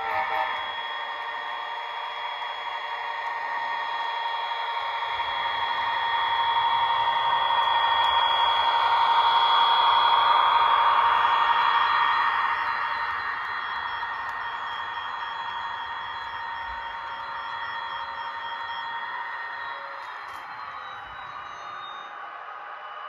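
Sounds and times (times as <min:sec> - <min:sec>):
model locomotive whine: 0:00.0 - 0:23.0.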